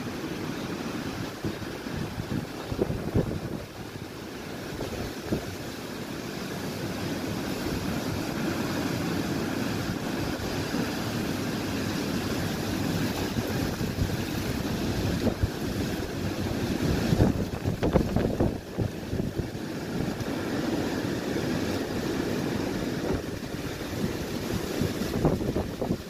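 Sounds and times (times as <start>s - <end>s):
wind and heavy rain: 0.0s - 26.0s
wind gusts thumping on microphone: 0.0s - 26.0s.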